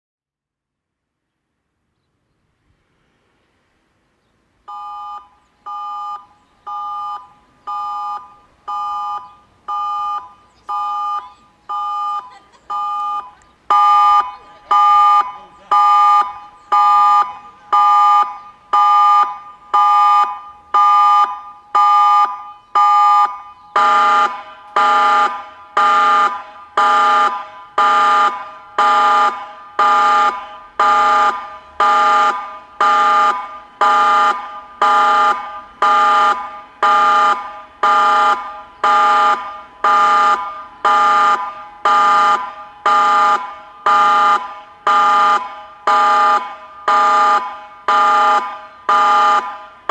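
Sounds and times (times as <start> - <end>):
pulsing warning siren: 4.7 - 49.9.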